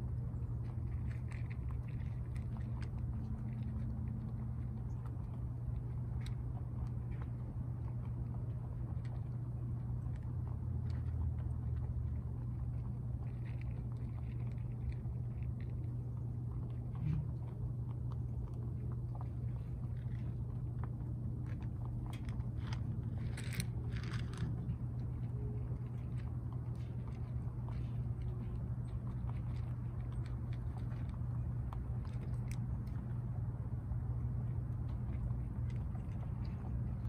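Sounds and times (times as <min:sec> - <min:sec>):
rabbits crunching feed: 0:00.0 - 0:37.0
steady low rumble: 0:00.0 - 0:37.0.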